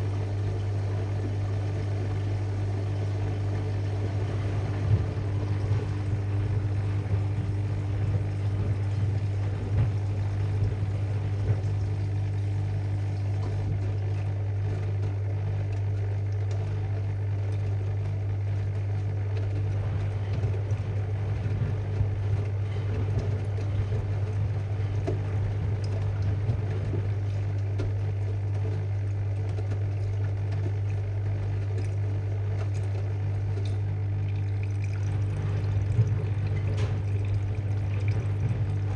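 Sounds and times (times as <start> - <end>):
washing machine drum turning: 0.0 - 38.9
water running in: 0.0 - 38.9.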